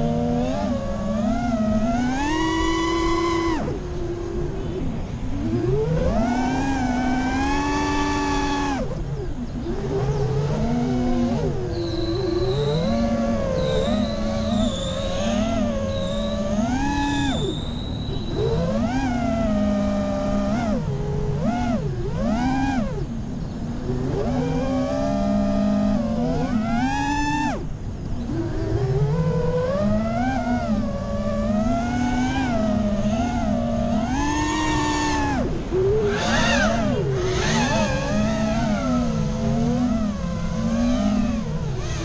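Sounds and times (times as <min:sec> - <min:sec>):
drone motors whining: 0:00.0 - 0:42.0.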